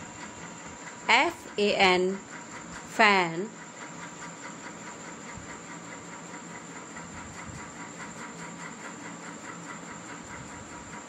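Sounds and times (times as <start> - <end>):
small machine humming and hissing: 0.0 - 11.0.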